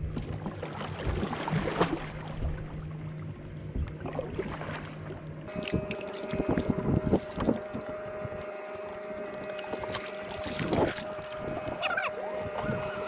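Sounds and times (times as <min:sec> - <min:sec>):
faint hum: 0:00.0 - 0:13.0
paddle splashing in water: 0:00.2 - 0:02.8, 0:03.9 - 0:13.0.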